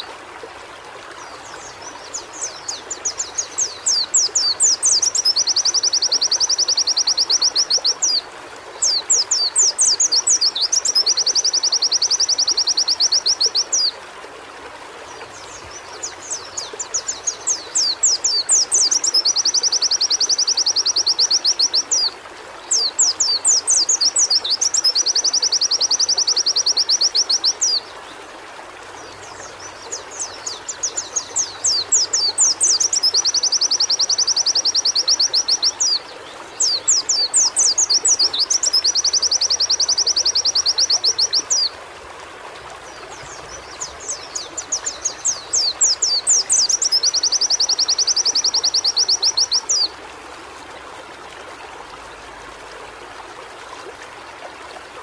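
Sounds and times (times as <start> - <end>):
running water hiss: 0.0 - 55.0.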